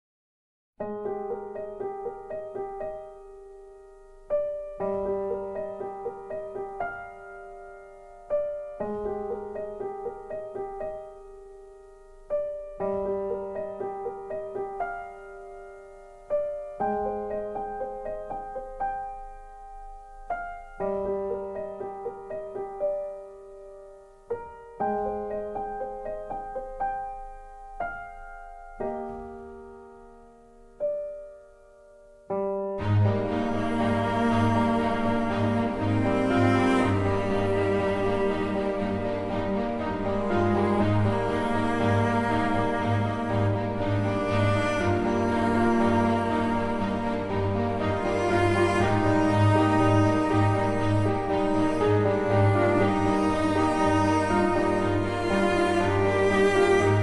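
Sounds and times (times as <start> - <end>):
gentle piano music: 0.8 - 57.0.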